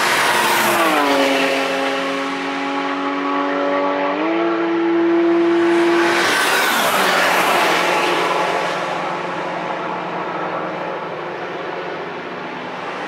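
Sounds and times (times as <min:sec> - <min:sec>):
race cars passing at speed: 0:00.0 - 0:13.0.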